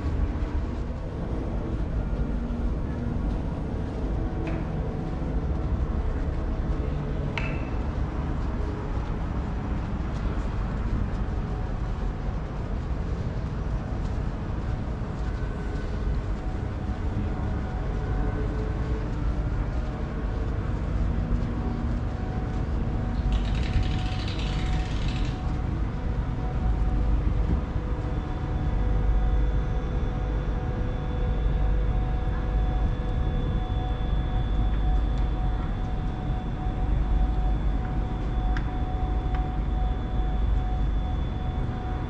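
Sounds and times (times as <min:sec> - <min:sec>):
low city rumble: 0:00.0 - 0:42.0
faint steady tones: 0:07.8 - 0:42.0.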